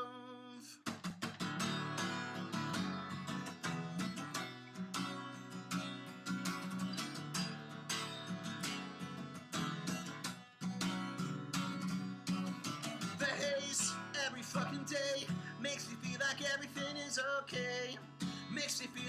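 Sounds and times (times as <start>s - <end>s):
acoustic guitar strummed: 0.0s - 19.0s.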